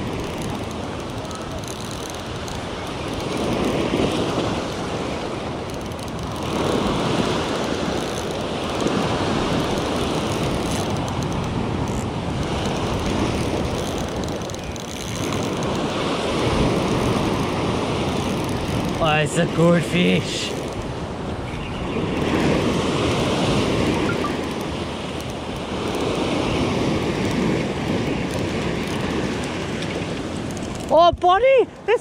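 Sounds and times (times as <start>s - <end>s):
wind buffeting microphone: 0.0s - 31.8s.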